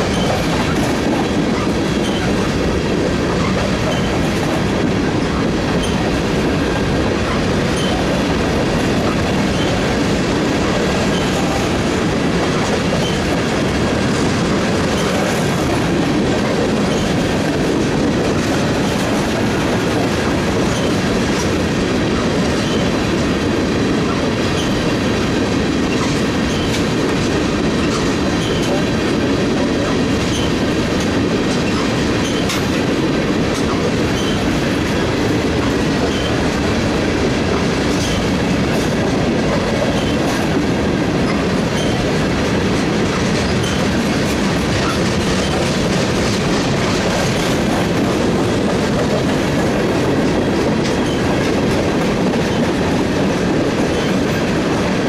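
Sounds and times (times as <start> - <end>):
wheels clicking over rail joints: 0.0 - 54.9
train wheels rumbling on rail: 0.0 - 55.0.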